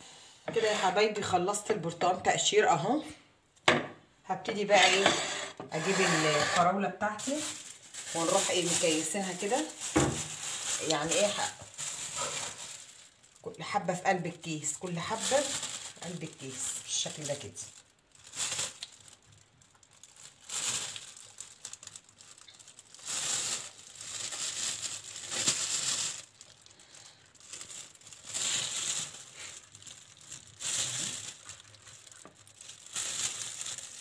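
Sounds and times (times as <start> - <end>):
plastic bag crinkling: 4.6 - 34.0.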